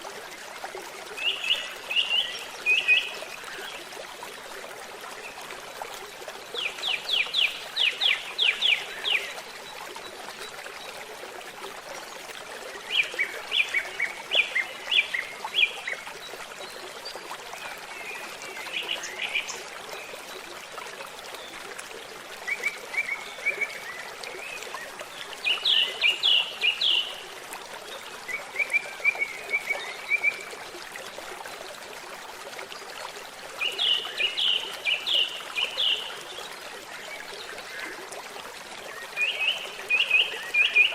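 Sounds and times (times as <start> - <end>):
babbling stream: 0.0 - 40.9.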